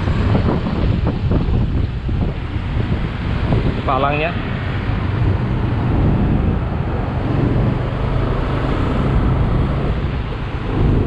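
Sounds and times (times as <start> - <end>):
motorcycles passing: 0.0 - 11.0
road traffic: 0.0 - 11.0.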